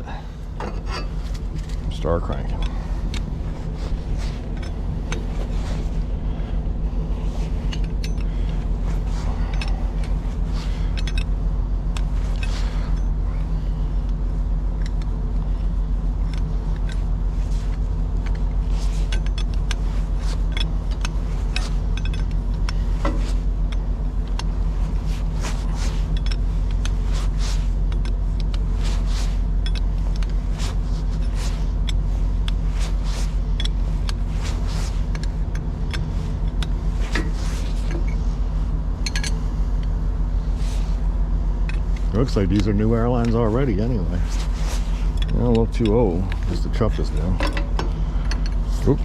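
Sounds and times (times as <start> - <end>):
truck engine running: 0.0 - 49.0.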